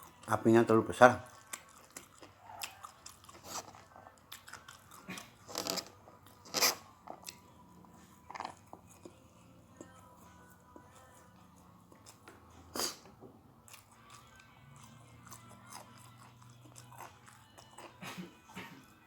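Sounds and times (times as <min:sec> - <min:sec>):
person chewing and crunching food: 0:00.0 - 0:19.0.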